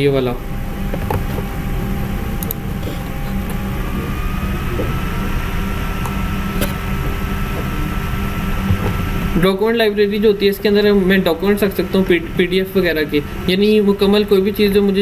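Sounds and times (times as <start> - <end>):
low hum and rumble: 0.0 - 15.0.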